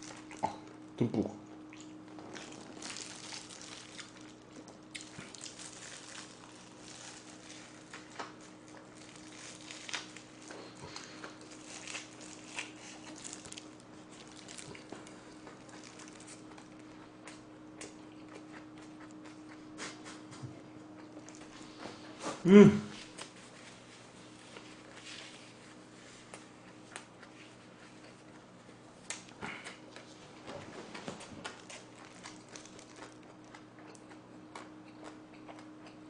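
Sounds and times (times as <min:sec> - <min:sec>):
smacking and chewing: 0:00.0 - 0:22.4, 0:26.2 - 0:36.0
low steady hum: 0:00.0 - 0:36.0.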